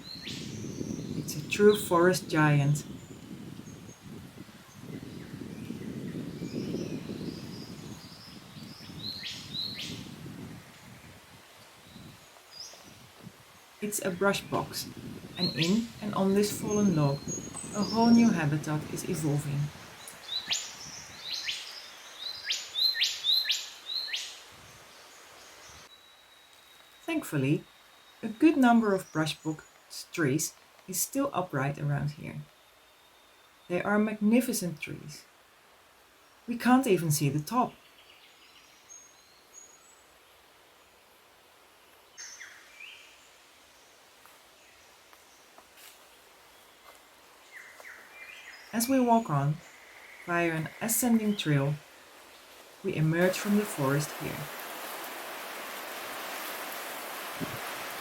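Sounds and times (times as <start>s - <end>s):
low steady hiss: 0.0s - 58.0s.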